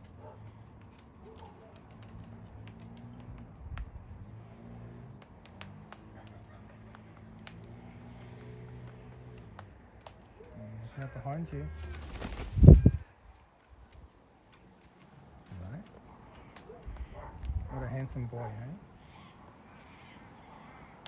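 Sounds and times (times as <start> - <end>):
parrots cracking seeds: 0.0 - 10.6, 11.5 - 18.2.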